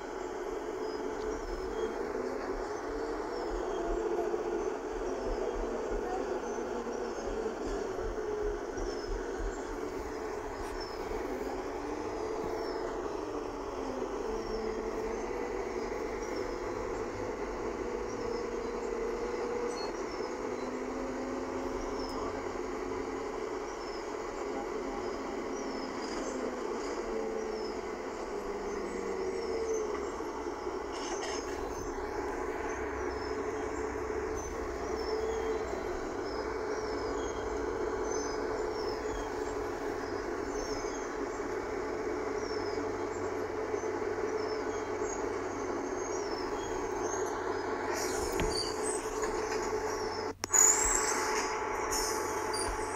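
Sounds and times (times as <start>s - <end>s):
bus diesel engine idling: 0.0s - 52.9s.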